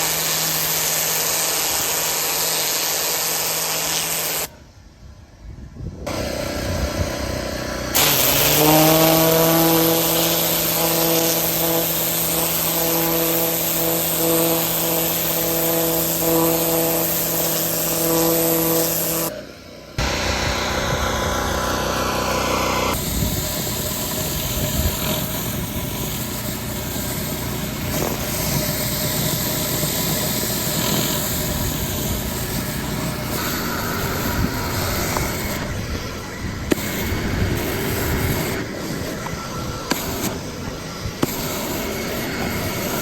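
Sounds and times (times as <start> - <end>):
pressure washer engine running: 0.0 - 4.5, 6.1 - 43.0
high-pressure spray on concrete: 0.0 - 4.6, 6.1 - 43.0.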